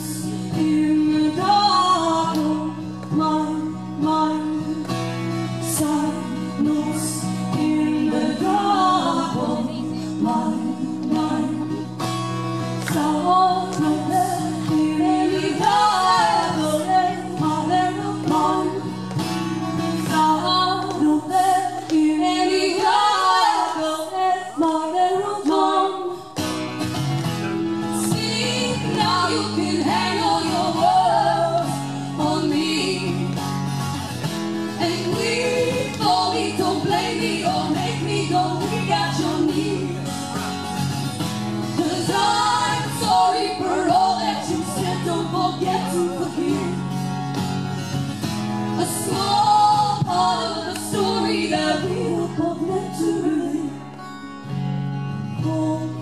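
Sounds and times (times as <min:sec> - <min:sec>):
women singing: 0:00.0 - 0:26.4, 0:27.8 - 0:40.4, 0:41.5 - 0:47.0, 0:48.5 - 0:54.2, 0:55.3 - 0:56.0
guitar accompaniment: 0:00.0 - 0:56.0.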